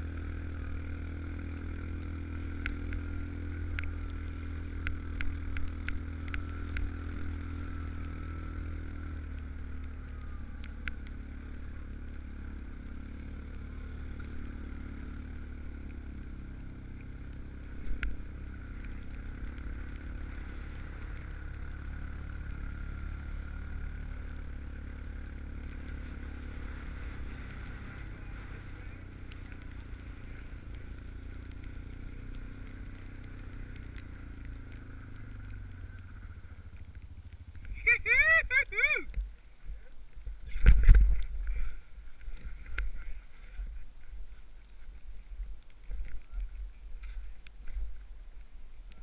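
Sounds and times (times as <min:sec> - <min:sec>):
vehicle engine droning: 0:00.0 - 0:49.0.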